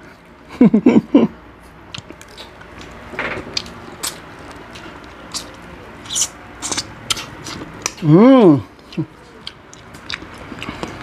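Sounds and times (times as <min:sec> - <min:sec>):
person chewing crispy food: 0:01.9 - 0:11.0.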